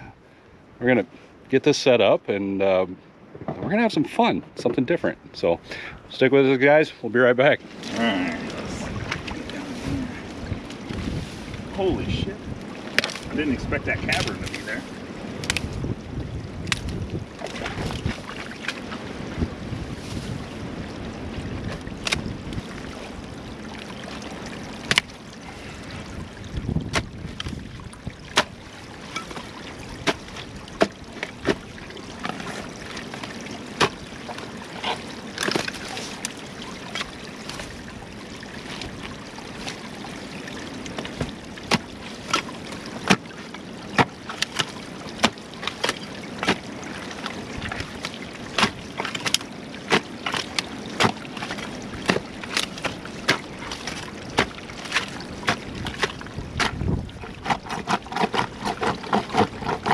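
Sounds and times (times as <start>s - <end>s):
water trickling and sloshing: 0.0s - 59.9s.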